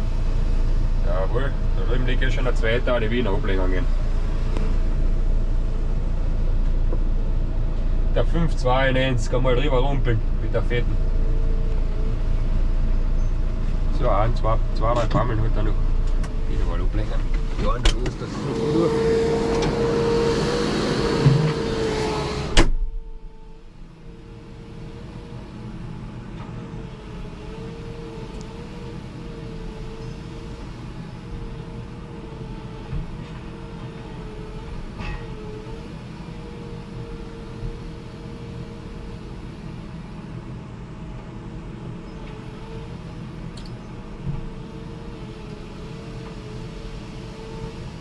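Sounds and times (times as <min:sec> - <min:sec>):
heavy machine engine under load: 0:00.0 - 0:48.0.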